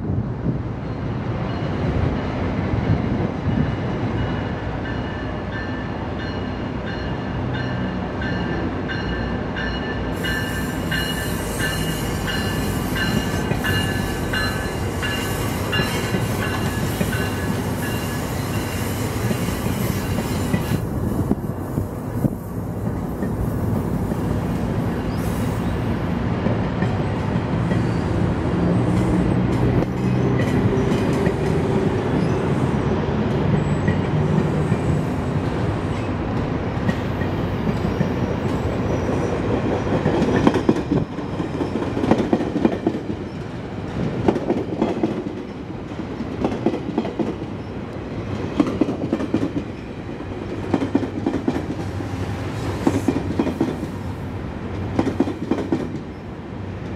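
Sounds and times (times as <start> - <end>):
diesel train engine drone: 0.0 - 56.9.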